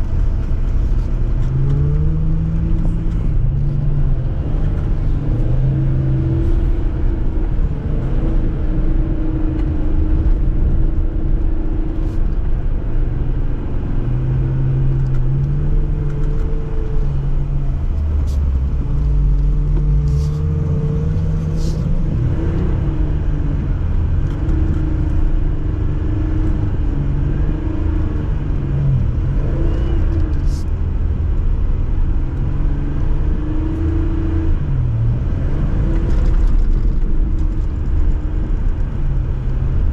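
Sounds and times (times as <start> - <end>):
engine revving offroad: 0.0 - 39.9.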